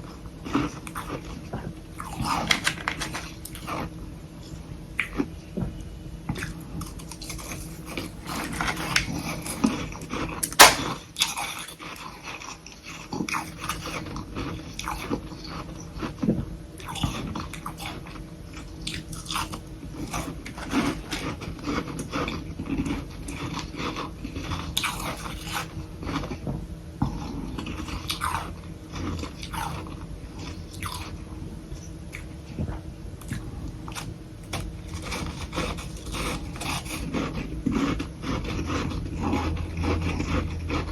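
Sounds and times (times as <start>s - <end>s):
chewing crunchy frost: 0.0s - 5.4s, 6.3s - 40.9s.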